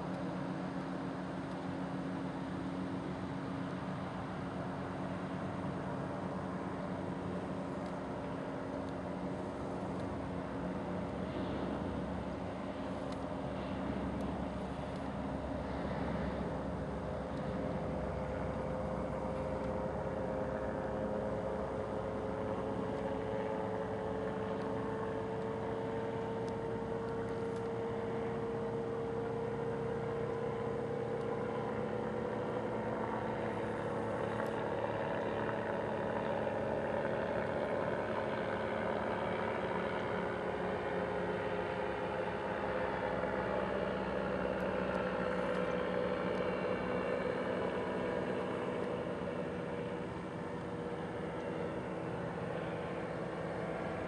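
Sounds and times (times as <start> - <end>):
ultralight aircraft engine droning: 0.0 - 54.0.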